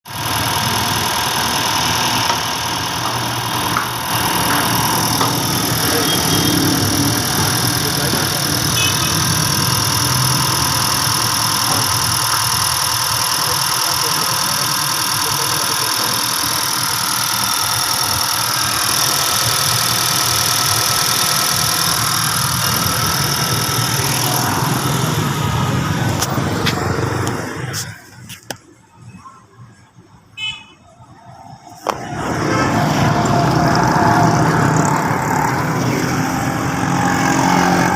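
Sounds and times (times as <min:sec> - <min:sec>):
car engine running: 0:00.0 - 0:28.9, 0:31.6 - 0:37.9.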